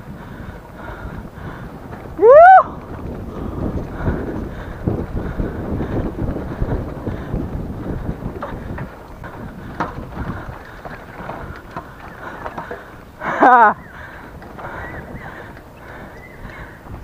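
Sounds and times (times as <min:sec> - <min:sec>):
bike tyres on dirt trail: 0:00.0 - 0:17.0
wind on microphone: 0:00.0 - 0:17.0.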